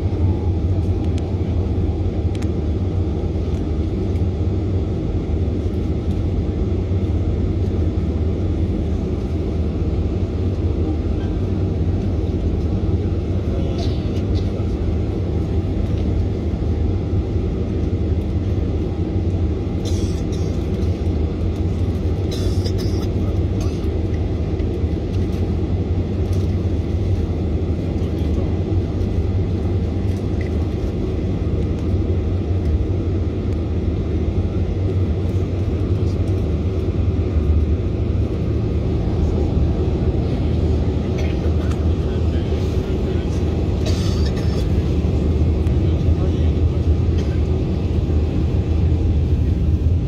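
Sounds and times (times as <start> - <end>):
jet airliner cabin rumble: 0.0 - 50.0.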